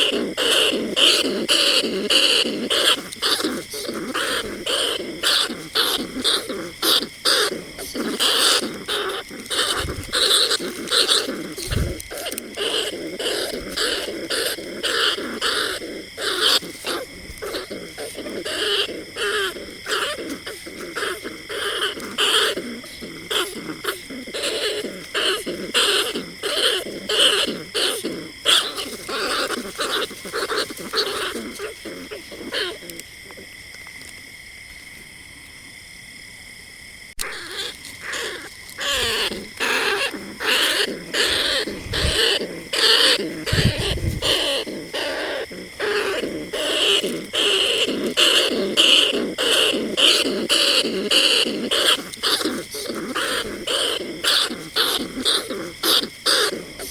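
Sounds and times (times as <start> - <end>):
rat squeaking and chattering: 0.0 - 33.5, 37.2 - 56.9.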